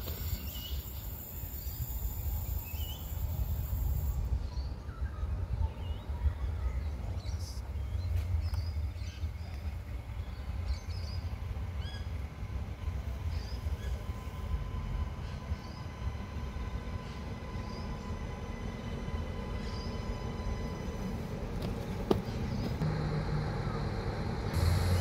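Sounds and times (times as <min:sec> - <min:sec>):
distant diesel railcar rumble: 0:00.0 - 0:25.0.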